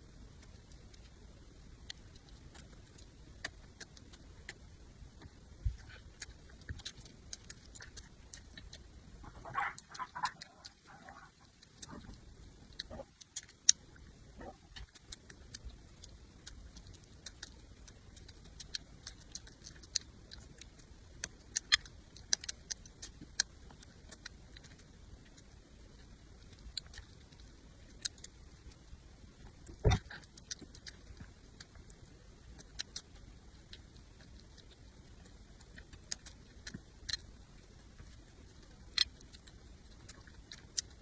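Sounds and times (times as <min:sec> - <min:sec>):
mouth chewing clicks and smacks: 0:00.1 - 0:41.0.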